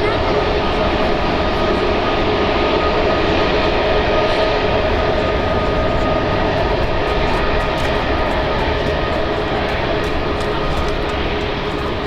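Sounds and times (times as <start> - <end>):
high engine whine: 0.0 - 12.0
jet engines running: 0.0 - 12.0.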